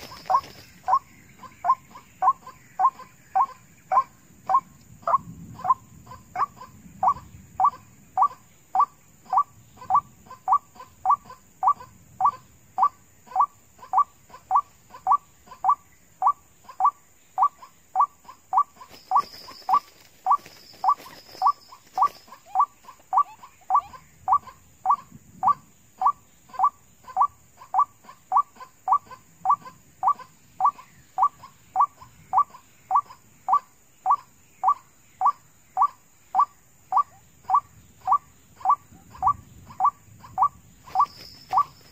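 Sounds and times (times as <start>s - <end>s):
waterhen call: 0.0s - 41.9s.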